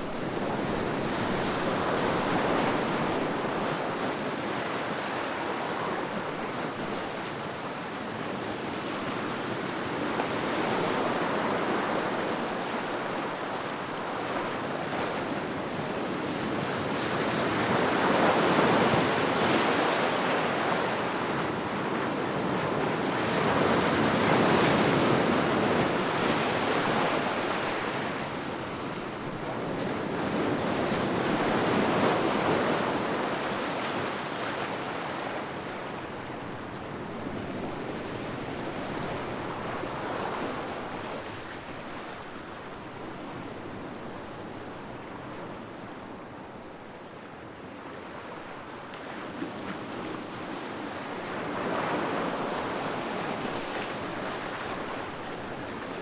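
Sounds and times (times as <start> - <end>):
sea waves breaking on shore: 8.6 - 56.0.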